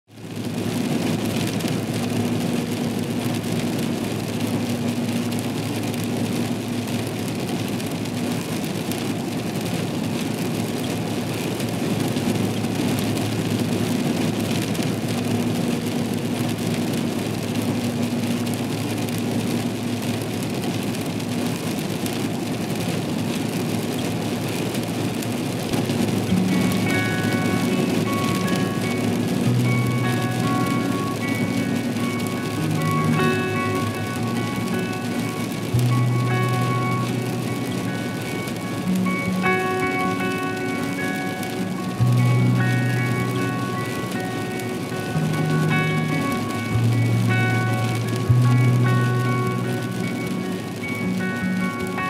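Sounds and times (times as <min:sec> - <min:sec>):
steady rain: 0:00.1 - 0:52.0
vehicle engine running: 0:00.1 - 0:52.0.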